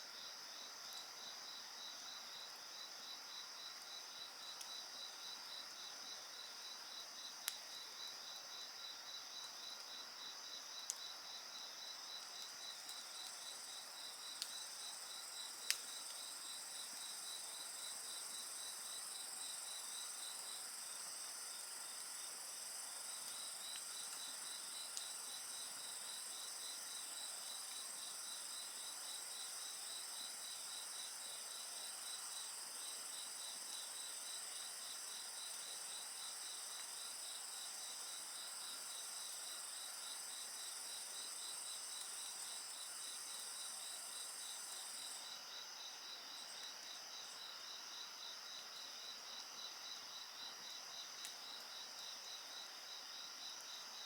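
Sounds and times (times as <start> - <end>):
crickets pulsed chirping: 0.0 - 54.0.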